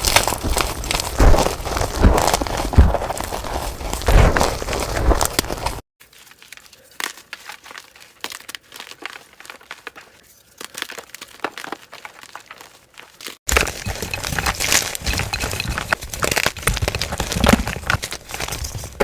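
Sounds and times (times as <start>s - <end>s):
chalk blocks crunching and crackling: 0.0s - 5.8s, 6.4s - 19.0s.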